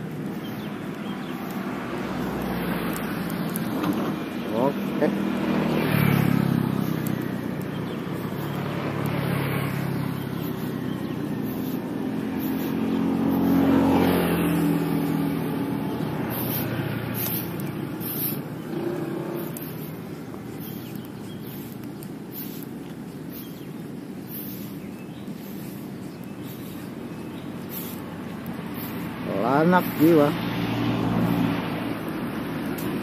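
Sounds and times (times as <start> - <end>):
traffic hum: 0.0 - 33.0
vehicle engine passing: 0.0 - 33.0.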